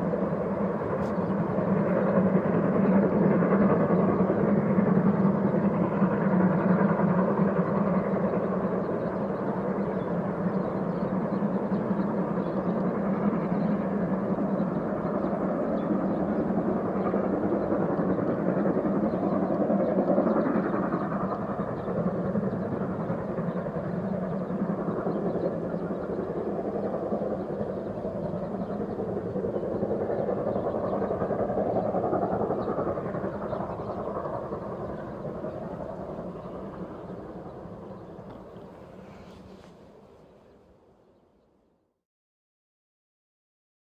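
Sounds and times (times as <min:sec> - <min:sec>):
distant steam train: 0:00.0 - 0:41.3.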